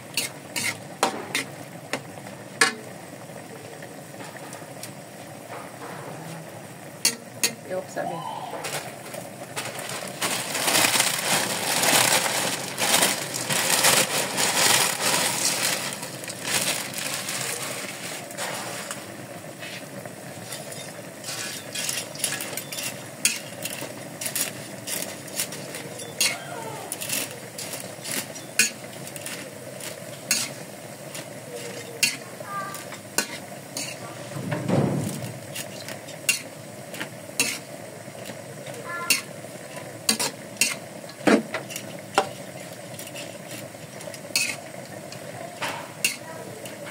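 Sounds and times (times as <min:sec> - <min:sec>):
spatula scraping a wok: 0:00.0 - 0:02.1, 0:09.6 - 0:34.4, 0:35.2 - 0:46.9
noodles sizzling in a wok: 0:00.0 - 0:46.9.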